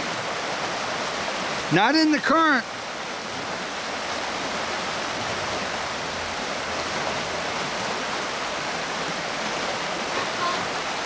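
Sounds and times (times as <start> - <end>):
fast-flowing creek water: 0.0 - 11.0.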